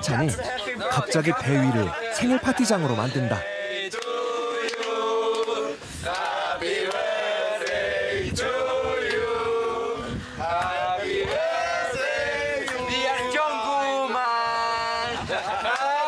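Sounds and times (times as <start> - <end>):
group singing birthday song: 0.1 - 15.8.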